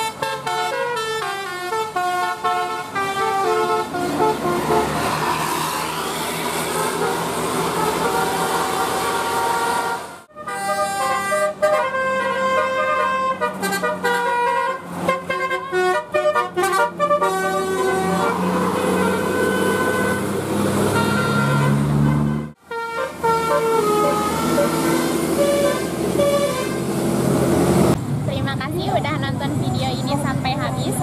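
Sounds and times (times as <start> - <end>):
bus musical horns playing tune: 0.0 - 28.0.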